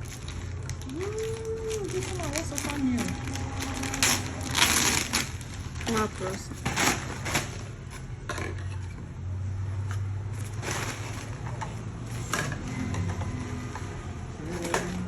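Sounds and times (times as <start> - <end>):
objects knocking and scraping: 2.4 - 15.0.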